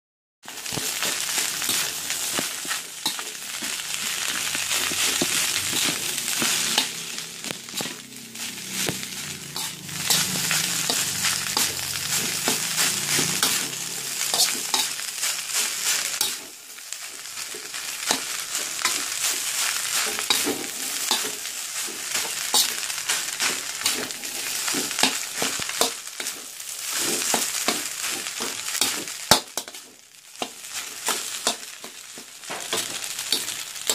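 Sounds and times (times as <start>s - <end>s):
food frying in hot oil: 0.4s - 33.9s.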